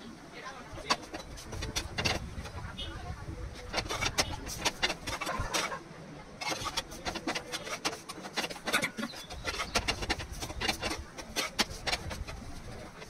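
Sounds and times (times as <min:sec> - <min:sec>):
metal spatula scraping griddle: 0:00.7 - 0:13.0.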